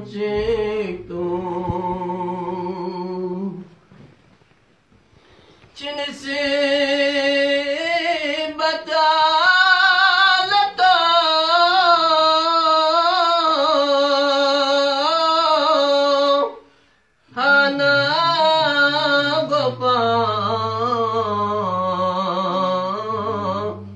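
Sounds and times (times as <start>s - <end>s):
man singing unaccompanied: 0.0s - 3.8s, 5.8s - 23.9s.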